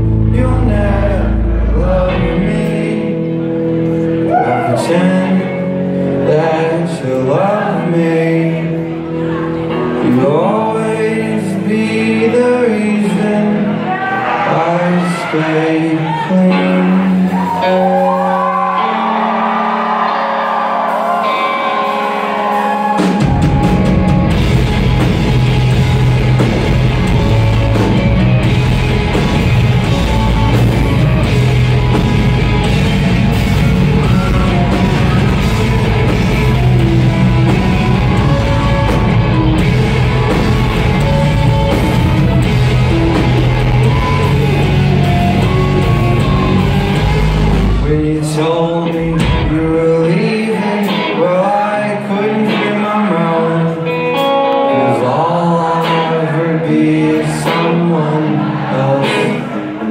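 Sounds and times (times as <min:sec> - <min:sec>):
drums and bass guitar: 0:00.0 - 0:06.7, 0:16.5 - 0:58.0
held guitar and keyboard notes: 0:00.0 - 0:59.9
live rock band playing: 0:00.0 - 0:59.9.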